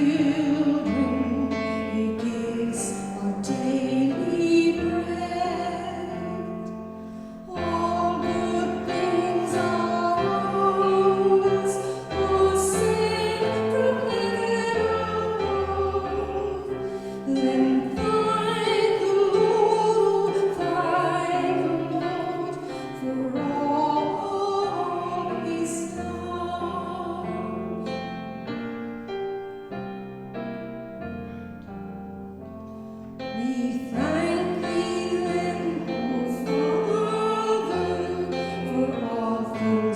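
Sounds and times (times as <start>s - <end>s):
worship song singing: 0.0s - 28.7s, 32.7s - 39.9s.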